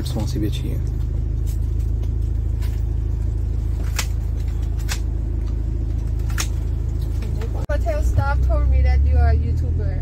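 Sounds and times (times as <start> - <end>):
car cabin rumble: 0.0 - 10.0.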